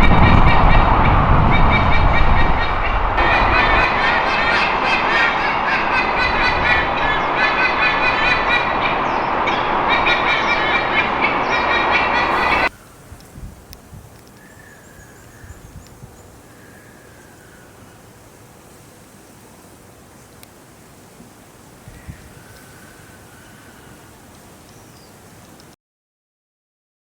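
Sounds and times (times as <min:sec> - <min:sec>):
eagles honking: 0:00.0 - 0:13.2, 0:14.2 - 0:25.8.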